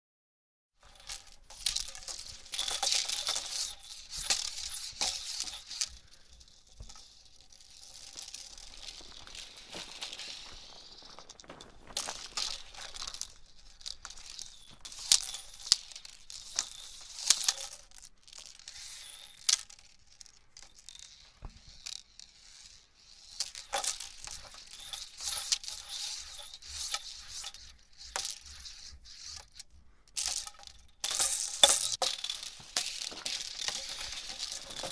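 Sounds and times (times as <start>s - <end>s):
hula hoop swishing: 0.8s - 19.7s, 20.8s - 34.9s
hula hoop clicking and rattling: 0.8s - 34.9s.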